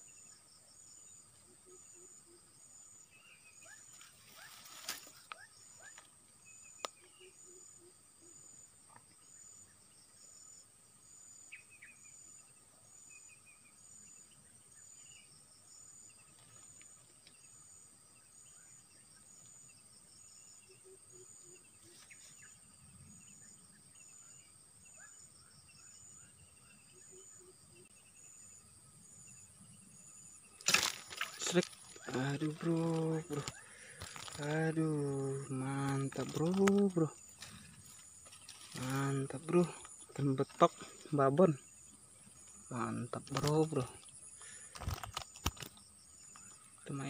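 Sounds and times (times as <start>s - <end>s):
high insect chirp: 0.0s - 47.0s
insects trilling: 0.0s - 47.0s.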